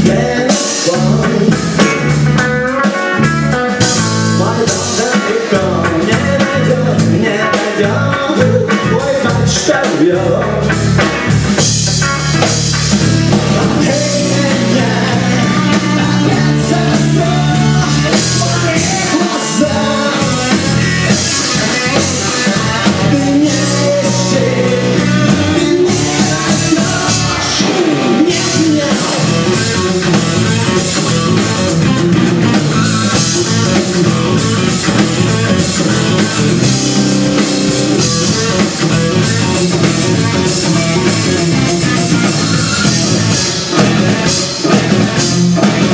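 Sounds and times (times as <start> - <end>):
rock music: 0.0 - 45.9.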